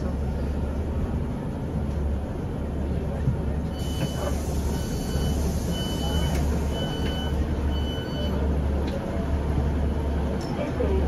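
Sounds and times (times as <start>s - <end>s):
diesel train engine idling: 0.0s - 11.0s.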